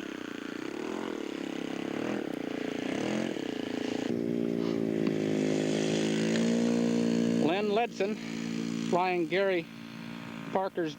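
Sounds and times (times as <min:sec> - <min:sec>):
model airplane engine running: 0:00.0 - 0:10.9.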